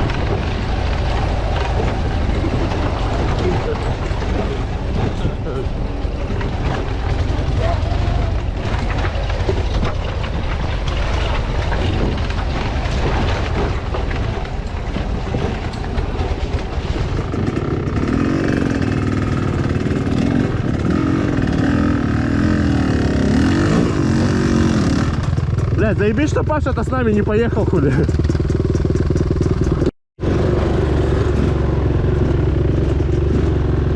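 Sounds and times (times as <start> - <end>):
motorcycle engine revving: 0.0 - 14.4, 16.9 - 26.2, 27.0 - 33.9
knocks and rattles: 0.0 - 33.9.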